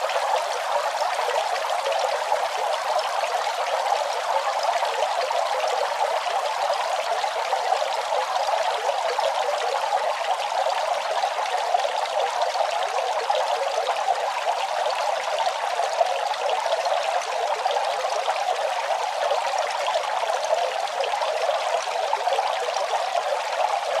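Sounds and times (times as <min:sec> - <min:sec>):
fountain water trickling and splashing: 0:00.0 - 0:24.0.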